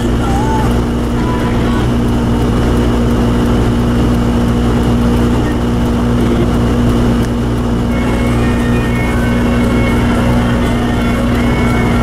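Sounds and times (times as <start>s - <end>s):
heater blower running: 0.0s - 12.0s
vehicle engine and tyres on snow: 0.0s - 12.0s.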